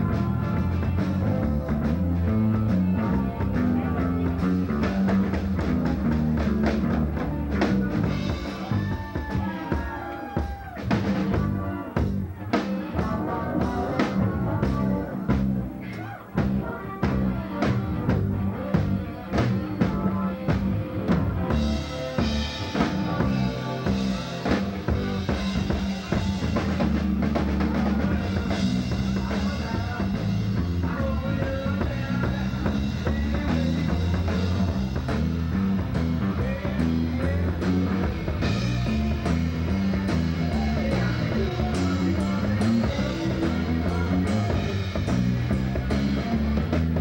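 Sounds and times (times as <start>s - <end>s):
rock band playing live: 0.0s - 47.0s.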